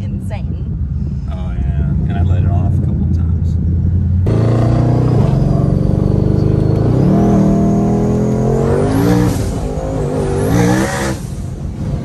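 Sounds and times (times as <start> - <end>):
car engine accelerating hard: 1.6 - 12.0.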